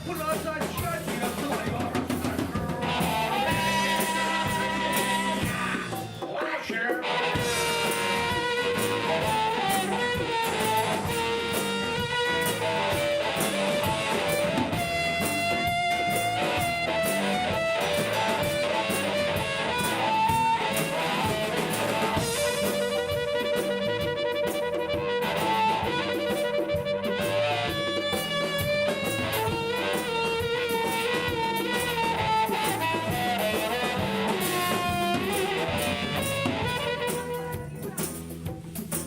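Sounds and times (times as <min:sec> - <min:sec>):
electric guitar lead: 0:00.0 - 0:39.0
steady drum beat: 0:00.0 - 0:39.0.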